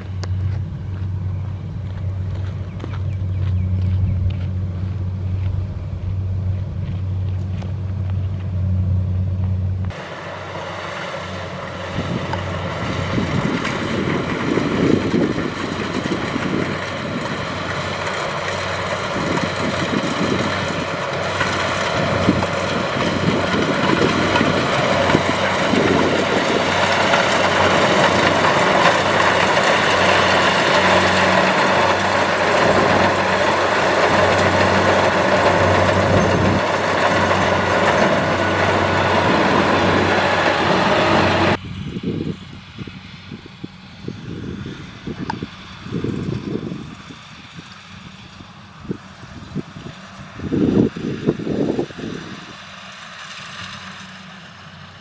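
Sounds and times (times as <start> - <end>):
combine harvester running: 0.0 - 55.0
distant engine: 0.0 - 55.0.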